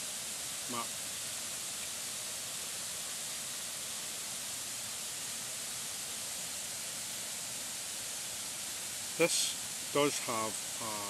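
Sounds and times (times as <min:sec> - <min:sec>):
waterfall hiss: 0:00.0 - 0:11.0.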